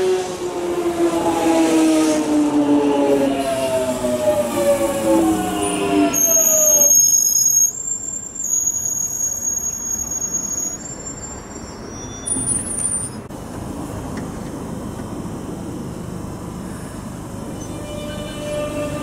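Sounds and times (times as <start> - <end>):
train rumble: 0.0 - 6.8, 9.7 - 19.0
wheels squealing on rails: 0.0 - 13.3, 16.7 - 19.0.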